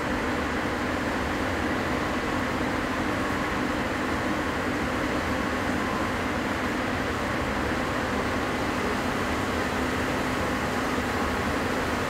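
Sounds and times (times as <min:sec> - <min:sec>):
machinery and ventilation hum: 0:00.0 - 0:12.0.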